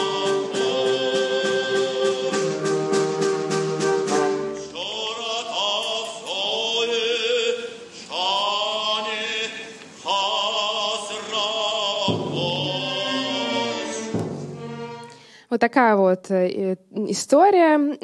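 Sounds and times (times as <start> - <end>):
operatic singing with vibrato: 0.0 - 15.3.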